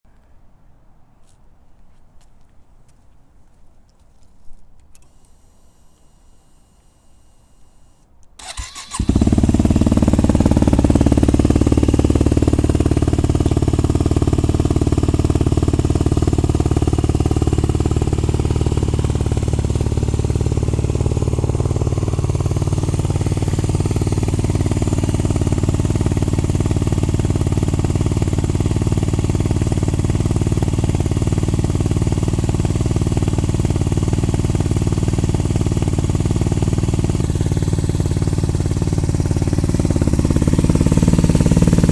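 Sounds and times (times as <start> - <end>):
motorcycle engine starting and idling: 5.0 - 41.9.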